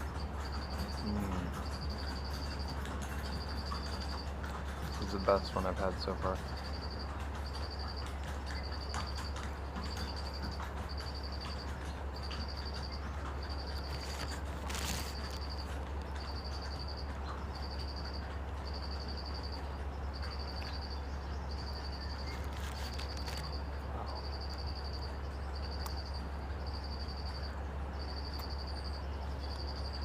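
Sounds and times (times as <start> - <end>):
insect trilling: 0.0 - 30.0
steady low hum: 0.0 - 30.0.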